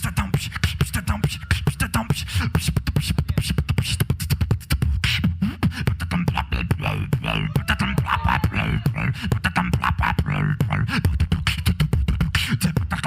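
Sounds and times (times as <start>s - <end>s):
beatboxed low bass: 0.0s - 13.0s
beatboxing drum sounds: 0.0s - 13.0s.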